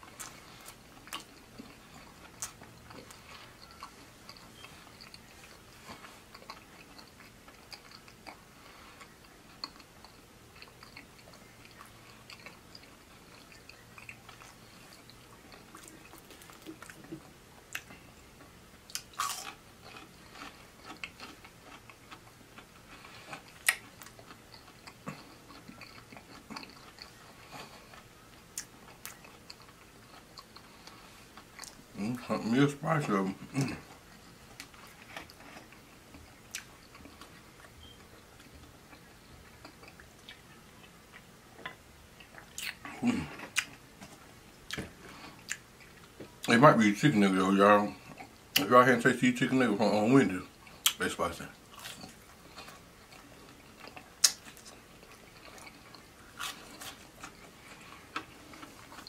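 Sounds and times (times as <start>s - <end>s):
person chewing food: 0.0s - 46.5s, 47.9s - 48.7s, 50.4s - 59.0s.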